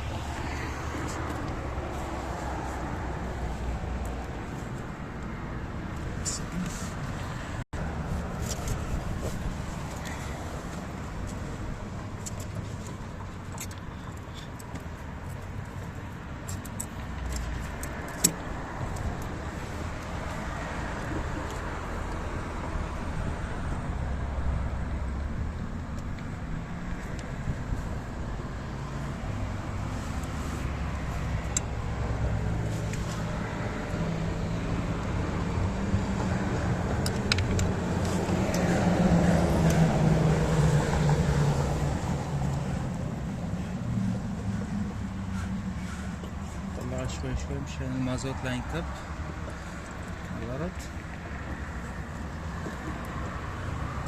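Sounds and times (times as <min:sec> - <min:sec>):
low rumble of motor traffic: 0:00.0 - 0:54.0.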